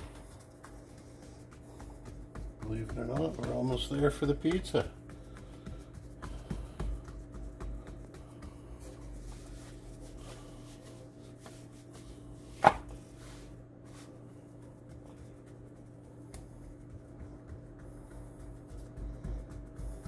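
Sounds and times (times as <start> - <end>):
dough slapping on wooden board: 0.0 - 20.0
soft dough handling: 0.0 - 20.0.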